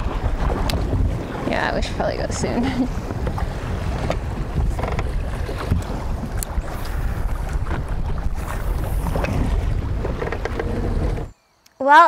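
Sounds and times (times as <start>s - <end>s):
waves knocking on boat hull: 0.0s - 11.3s
wind buffeting microphone: 0.0s - 11.4s.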